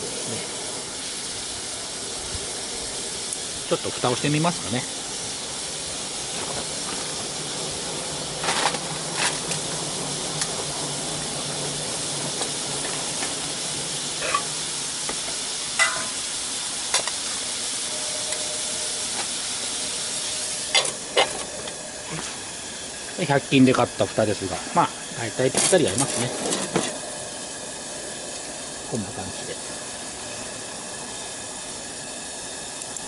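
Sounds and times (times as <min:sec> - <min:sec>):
vegetables sizzling in a skillet: 0:00.0 - 0:33.0.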